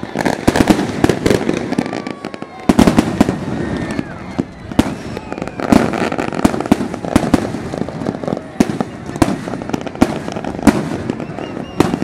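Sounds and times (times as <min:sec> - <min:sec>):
continuous noisy din: 0:00.0 - 0:12.0
fireworks bangs: 0:00.0 - 0:12.0.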